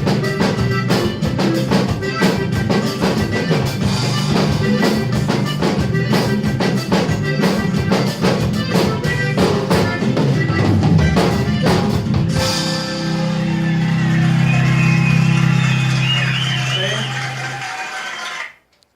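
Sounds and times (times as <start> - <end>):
bass and guitar: 0.0 - 17.7
drum kit beating: 0.0 - 17.9.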